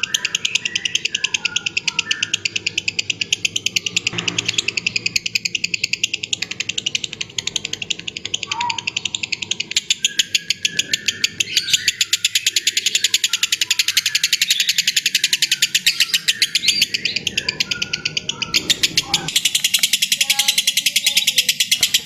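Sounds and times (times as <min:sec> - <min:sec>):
lovebird chattering trill: 0:00.0 - 0:22.0.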